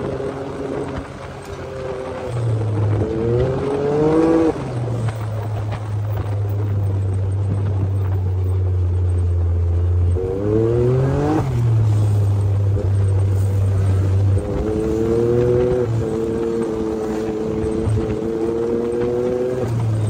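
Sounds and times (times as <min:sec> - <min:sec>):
off-road vehicle engine droning: 0:00.0 - 0:20.0.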